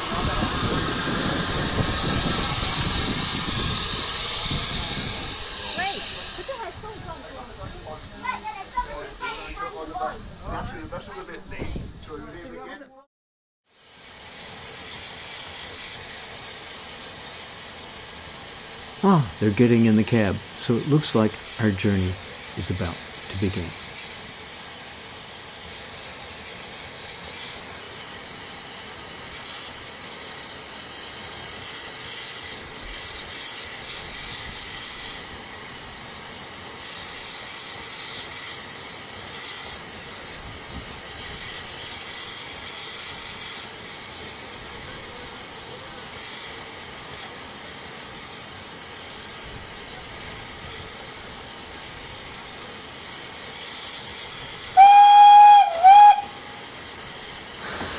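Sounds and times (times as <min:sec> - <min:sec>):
steam hissing: 0:00.0 - 0:10.4, 0:13.7 - 0:57.9.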